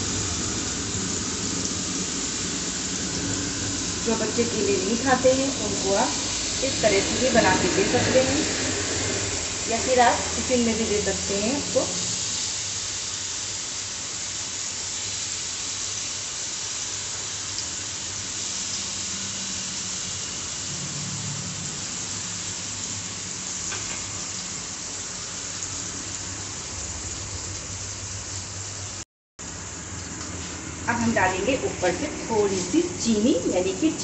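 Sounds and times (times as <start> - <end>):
banana slices sizzling in pan: 0.0 - 34.0.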